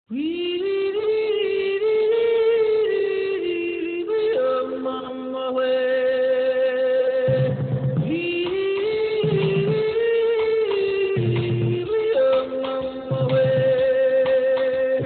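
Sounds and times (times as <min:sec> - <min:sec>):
high voice singing wordlessly: 0:00.1 - 0:15.0.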